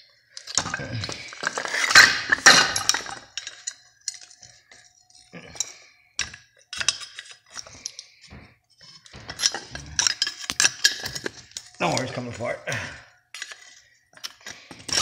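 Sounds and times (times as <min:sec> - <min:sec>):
metal tool clinking and scraping: 0:00.4 - 0:12.5, 0:13.3 - 0:15.0.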